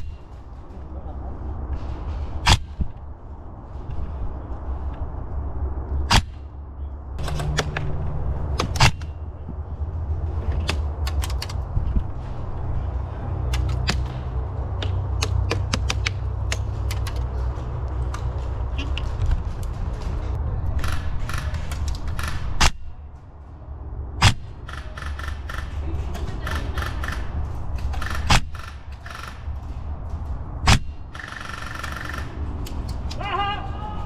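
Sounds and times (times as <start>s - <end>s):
low rumble: 0.0s - 31.2s.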